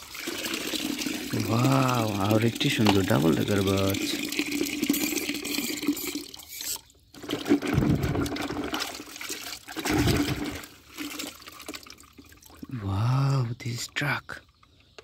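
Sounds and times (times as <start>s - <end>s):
water pouring into plastic tub: 0.0s - 12.7s.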